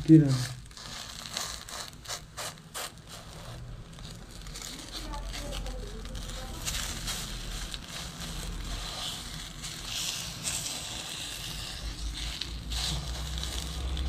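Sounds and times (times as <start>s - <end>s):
bread frying in oil: 0.0s - 14.0s.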